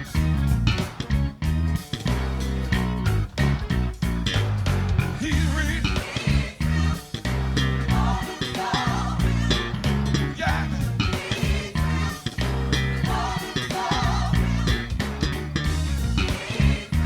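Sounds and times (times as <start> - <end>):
electric bass line: 0.0 - 17.0
funk band music: 0.0 - 17.0.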